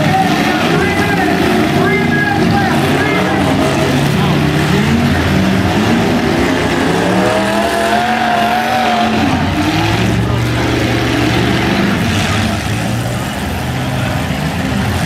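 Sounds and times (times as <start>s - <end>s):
car engine revving: 0.0s - 15.0s
car engines running: 0.0s - 15.0s.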